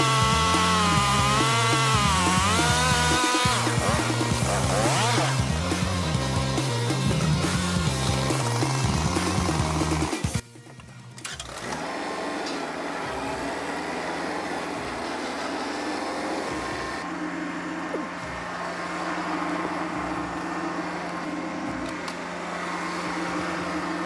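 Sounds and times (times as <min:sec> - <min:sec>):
chainsaw cutting log: 0:00.0 - 0:10.4, 0:11.2 - 0:24.0.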